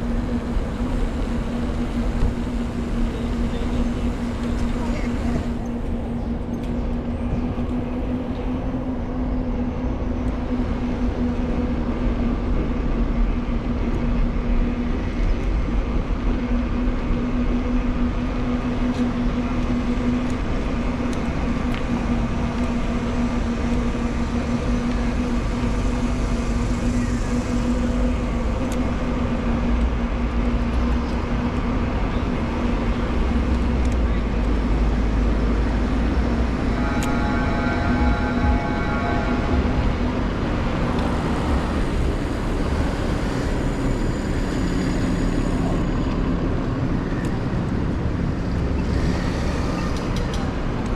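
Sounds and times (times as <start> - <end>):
constant low hum: 0.0 - 50.9
urban traffic rumble: 0.0 - 50.9.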